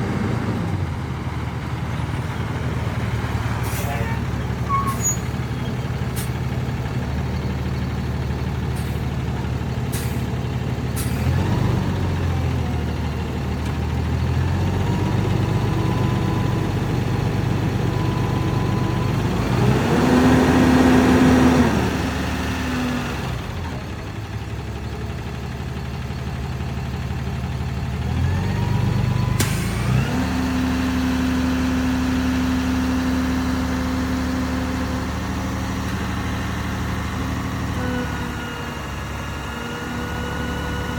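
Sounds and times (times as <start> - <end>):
diesel truck engine revving: 0.0 - 24.4, 27.5 - 40.9.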